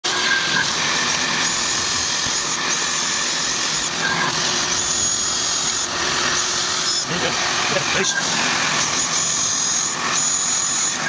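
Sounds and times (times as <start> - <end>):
cordless drill whining: 0.1 - 11.0.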